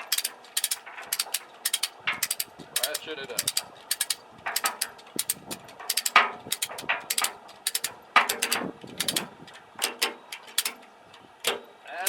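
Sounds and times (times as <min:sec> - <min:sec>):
hand ratchet clicking: 0:00.0 - 0:10.8.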